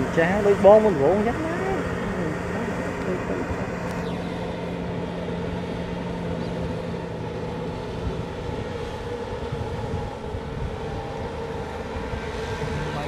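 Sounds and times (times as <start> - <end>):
distant tractor diesel engine: 0.0 - 13.0.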